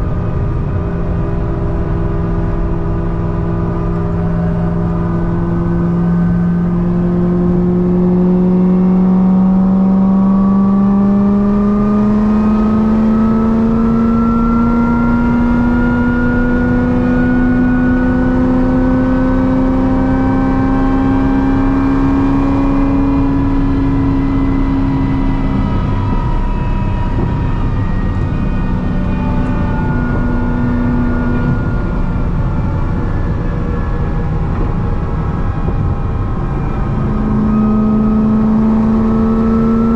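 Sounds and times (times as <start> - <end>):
supercharged car engine under load: 0.0 - 39.9.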